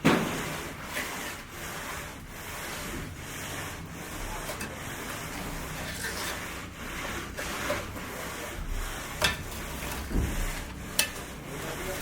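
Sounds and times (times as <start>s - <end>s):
rough scraping strokes: 0.3s - 12.0s.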